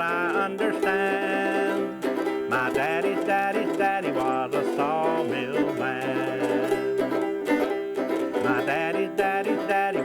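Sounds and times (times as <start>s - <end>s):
bluegrass music with banjo: 0.0s - 10.0s.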